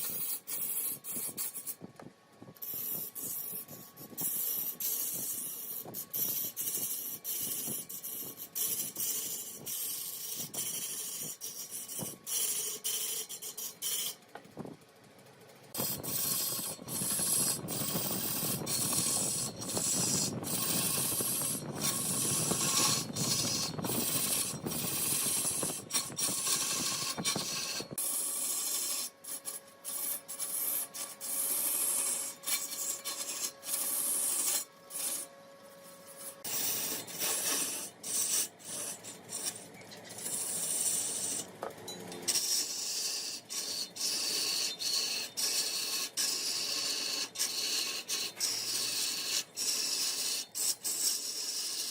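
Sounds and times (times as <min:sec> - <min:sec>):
lathe tool scraping wood: 0:00.0 - 0:01.8, 0:02.6 - 0:14.5, 0:15.7 - 0:51.9.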